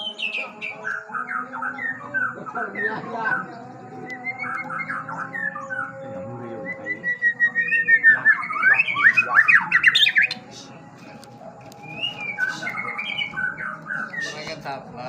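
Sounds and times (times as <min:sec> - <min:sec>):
bird singing whistled notes: 0:00.0 - 0:10.8, 0:11.6 - 0:14.8.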